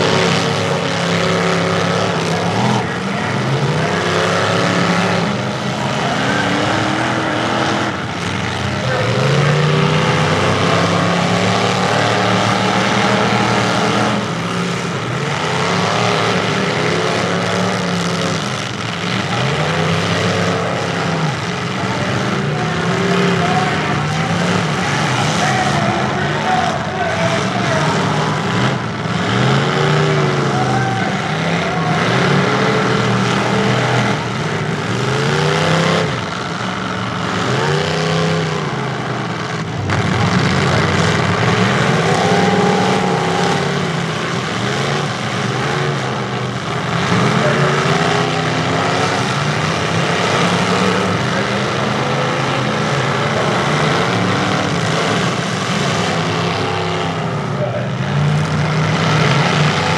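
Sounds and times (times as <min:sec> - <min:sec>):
truck engines revving hard: 0:00.0 - 0:59.9.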